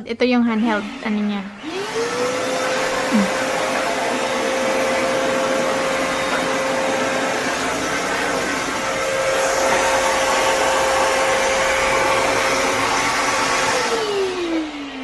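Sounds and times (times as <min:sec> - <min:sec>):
handheld vacuum cleaner running: 0:00.4 - 0:15.0.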